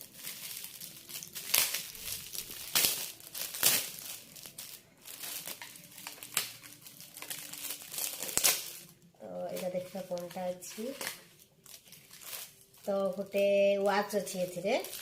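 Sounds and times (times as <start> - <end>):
gift wrapping crinkling: 0.0 - 15.0.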